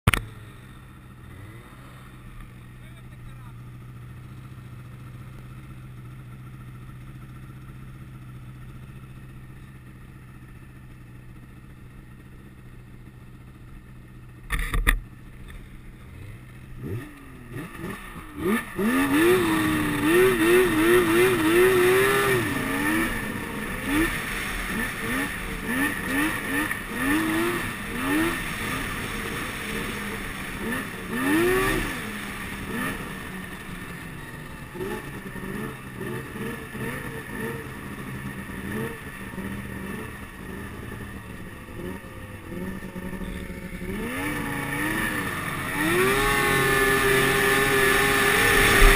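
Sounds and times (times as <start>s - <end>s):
snowmobile engine: 0.1s - 48.9s.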